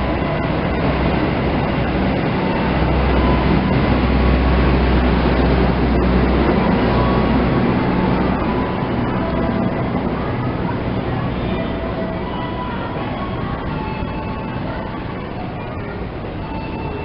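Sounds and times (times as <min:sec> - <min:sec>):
low hum: 0:00.0 - 0:17.0
train wheels rumbling on rails: 0:00.0 - 0:17.0.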